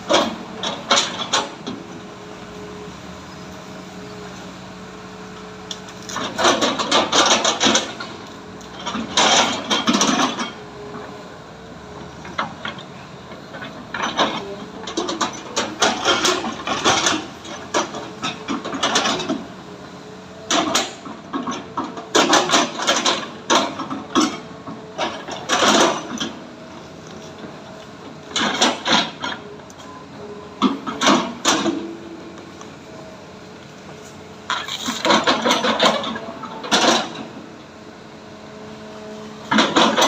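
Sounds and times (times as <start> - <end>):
heavy machinery engine running: 0.0 - 40.0
machinery clanking and scraping: 0.0 - 40.0.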